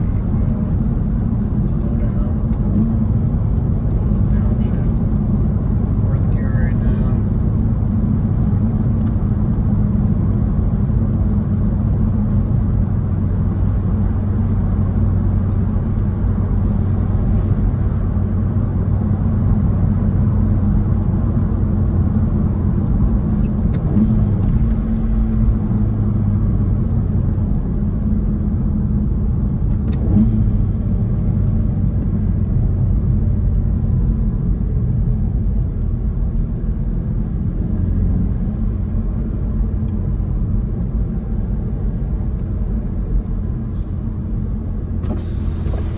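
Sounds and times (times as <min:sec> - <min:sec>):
car engine droning at cruise: 0:00.0 - 0:45.9
road noise: 0:00.0 - 0:45.9.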